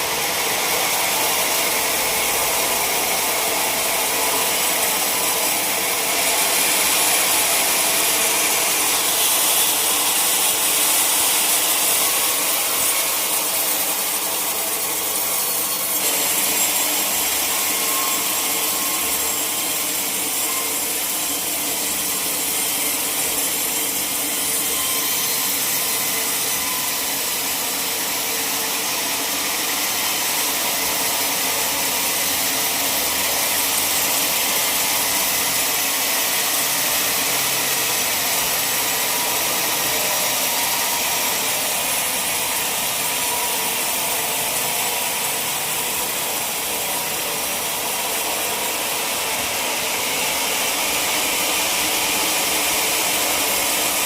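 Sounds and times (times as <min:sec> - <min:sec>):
saw blade cutting log: 0:00.0 - 0:54.0.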